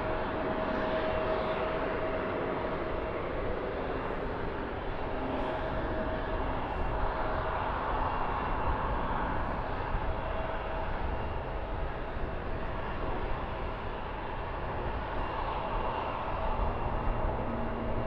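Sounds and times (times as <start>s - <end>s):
faint jet whine: 0.0s - 18.0s
jet airliner passing: 0.0s - 18.0s.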